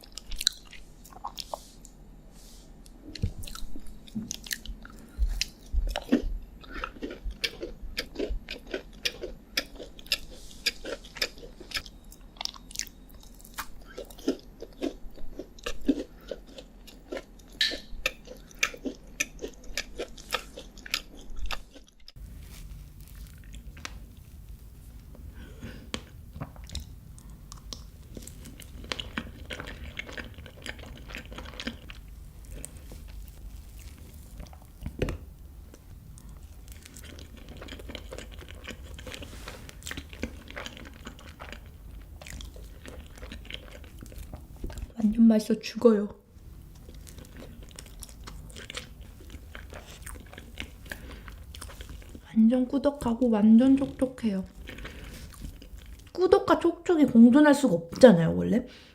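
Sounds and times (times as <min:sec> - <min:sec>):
low steady hum: 0:00.0 - 0:58.9
chewing and crunching: 0:03.1 - 0:45.0, 0:46.4 - 0:52.3, 0:53.8 - 0:56.2.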